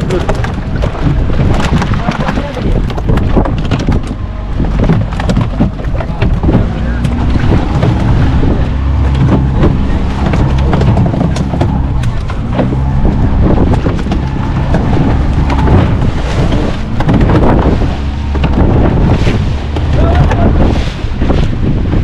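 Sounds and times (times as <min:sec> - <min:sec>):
boat engine running: 0:00.0 - 0:22.0
wind buffeting microphone: 0:00.0 - 0:22.0.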